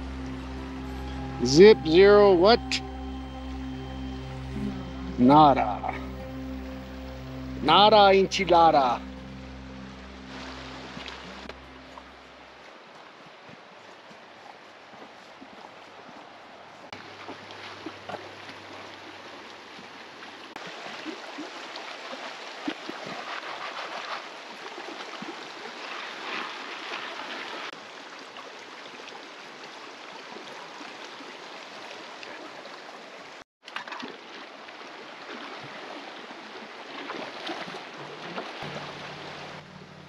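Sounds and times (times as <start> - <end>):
creek water flowing: 0.0 - 40.0.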